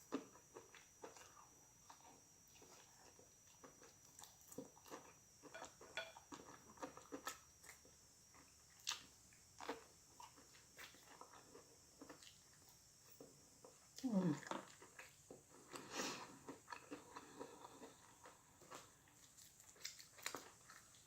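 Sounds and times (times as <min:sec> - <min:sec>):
close-up chewing: 0:00.0 - 0:21.0.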